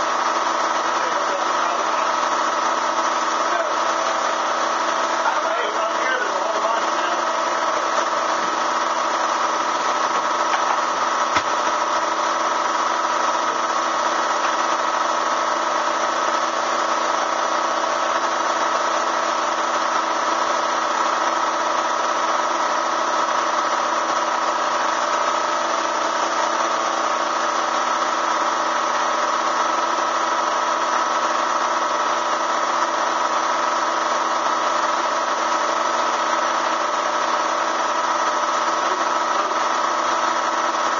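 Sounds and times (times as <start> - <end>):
vacuum motor humming: 0.0 - 40.9.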